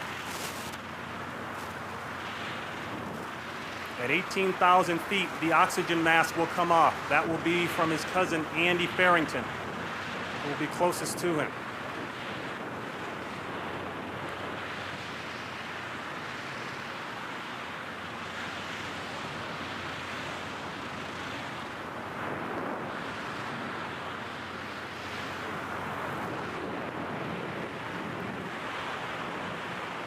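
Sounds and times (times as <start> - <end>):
wind rushing across microphone: 0.0 - 30.0.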